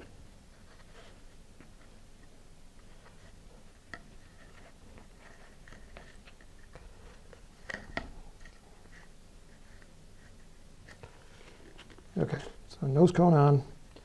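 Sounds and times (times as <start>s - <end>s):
soft rustling of cardboard: 0.0s - 14.0s.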